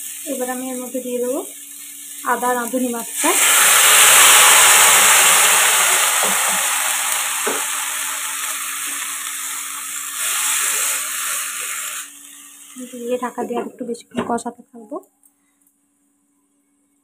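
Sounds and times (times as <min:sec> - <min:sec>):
vegetables sizzling in hot oil: 0:00.0 - 0:13.8.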